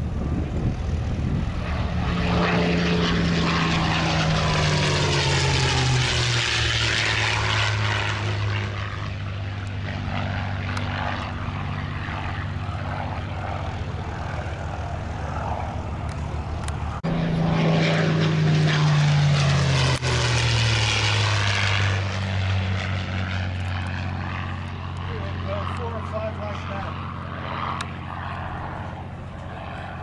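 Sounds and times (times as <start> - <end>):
propeller plane flying overhead: 0.0 - 30.0.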